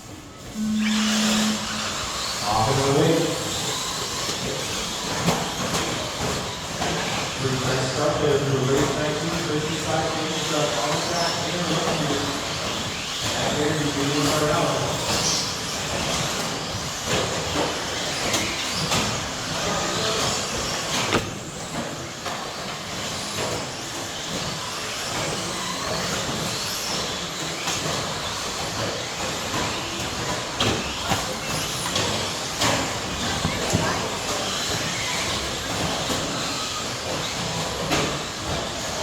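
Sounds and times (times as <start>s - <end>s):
electric toy trucks racing: 0.0s - 39.0s.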